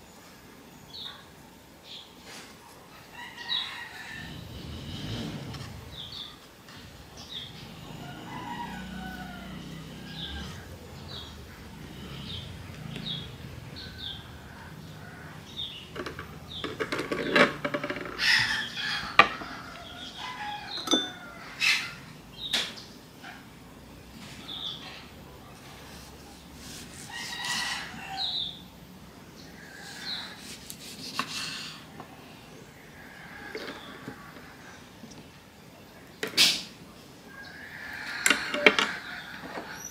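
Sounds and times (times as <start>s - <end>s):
chickens and rooster calling: 2.9s - 39.9s
small birds chirping: 3.2s - 38.2s.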